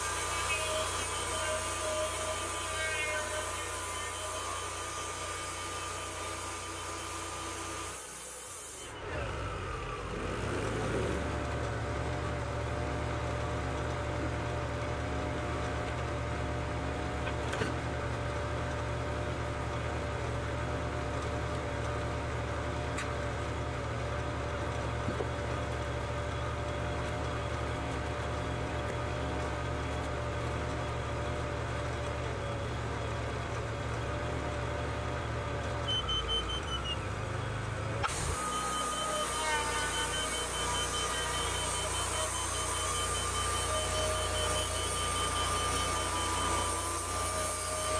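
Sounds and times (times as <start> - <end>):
sawmill engine droning: 0.0 - 47.9.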